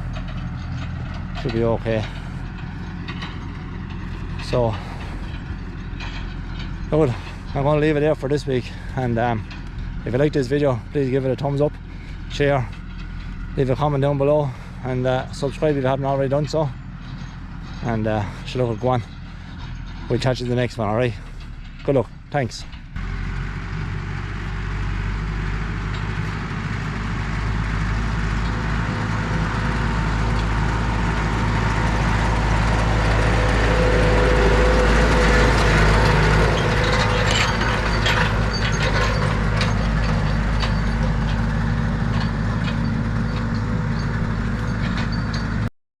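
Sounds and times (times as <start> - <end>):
metallic clattering: 0.0 - 45.7
tractor engine running: 0.0 - 45.7.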